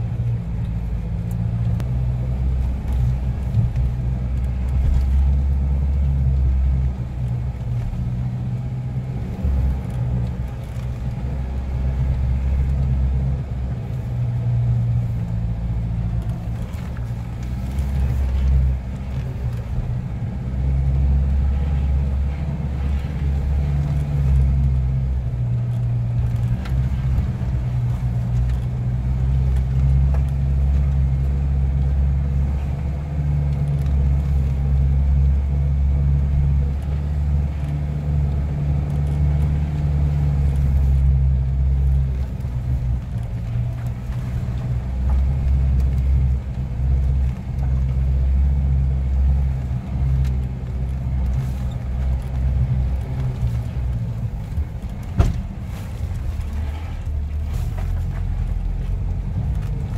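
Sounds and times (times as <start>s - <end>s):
vehicle engine running at low speed: 0.0s - 59.9s.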